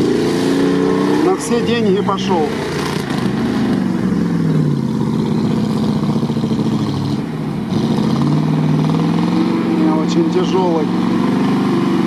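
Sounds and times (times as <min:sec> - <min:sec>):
engine revving hard: 0:00.0 - 0:04.6, 0:05.4 - 0:12.0.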